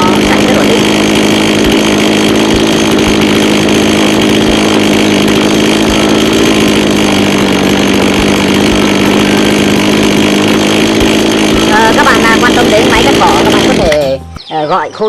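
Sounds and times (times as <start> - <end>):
grass cutter engine running: 0.0 - 14.3.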